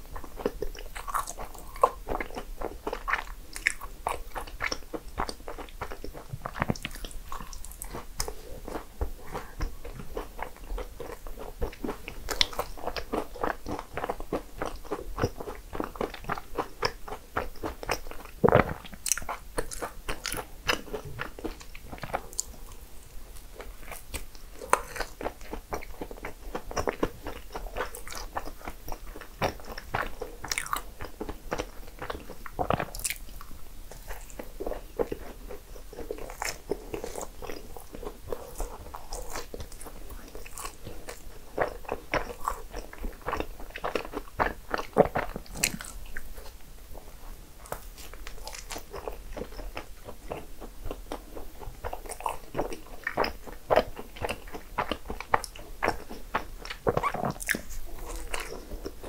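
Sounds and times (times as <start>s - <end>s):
person chewing soft desserts: 0.0s - 59.0s.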